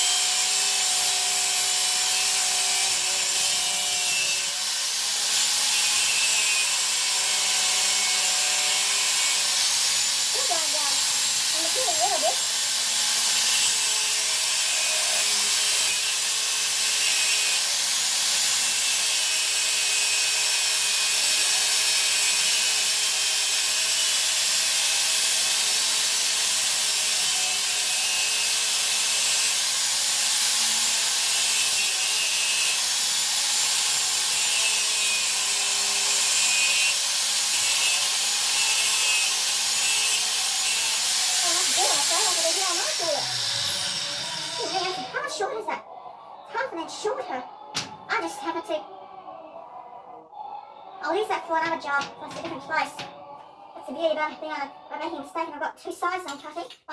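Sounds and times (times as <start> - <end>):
power tool cutting steel: 0.0 - 45.8, 51.1 - 55.2.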